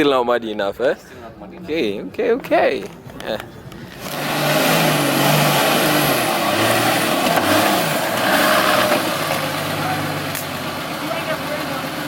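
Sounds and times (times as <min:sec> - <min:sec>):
off-road engine running: 0:01.0 - 0:12.0.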